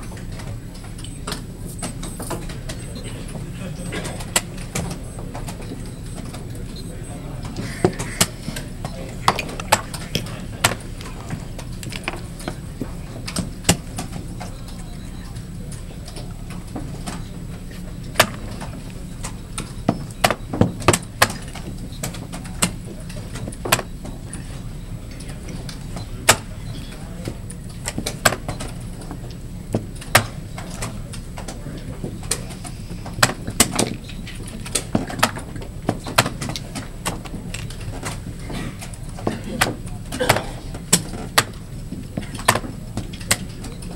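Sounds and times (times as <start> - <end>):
hall noise: 0.0 - 43.9.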